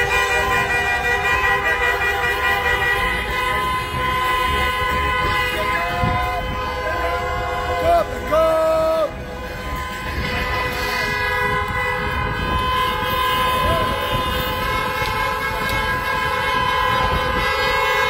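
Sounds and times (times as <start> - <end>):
car horns honking in tunnel: 0.0 - 18.0.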